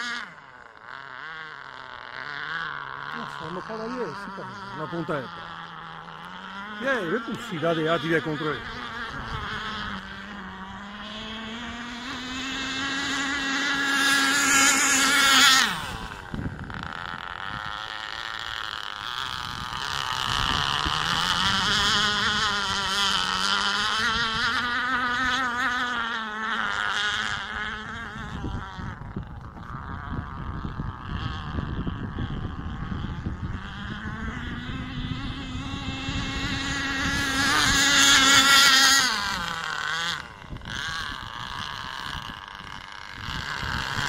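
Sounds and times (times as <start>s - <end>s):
model boat engine buzzing: 0.0s - 44.0s.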